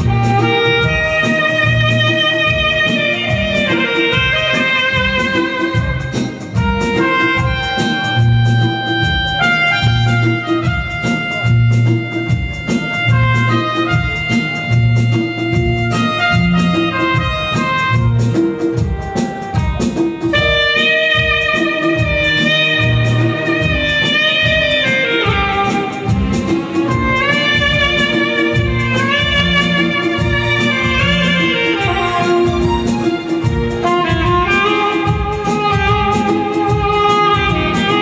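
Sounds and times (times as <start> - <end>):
backing track with drums and bass: 0.0 - 38.0
saxophone melody: 0.0 - 38.0.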